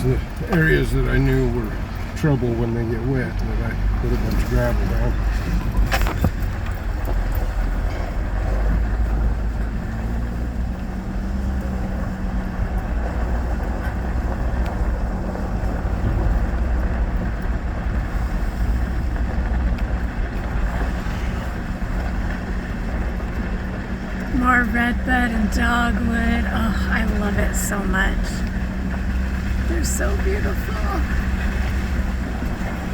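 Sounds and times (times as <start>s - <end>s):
truck engine rumble: 0.0s - 32.9s
tyres on gravel: 0.0s - 32.9s.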